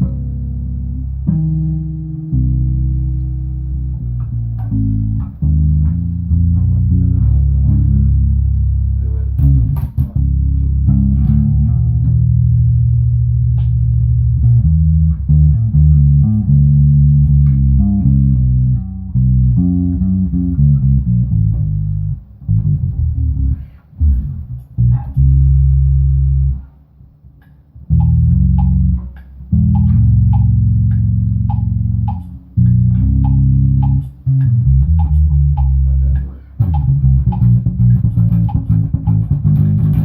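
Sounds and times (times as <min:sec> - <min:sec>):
bass guitar low notes: 0:00.0 - 0:40.0.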